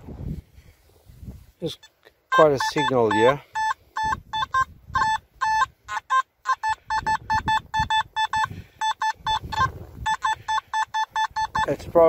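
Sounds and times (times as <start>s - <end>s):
metal detector two-tone beeps: 1.7s - 12.0s.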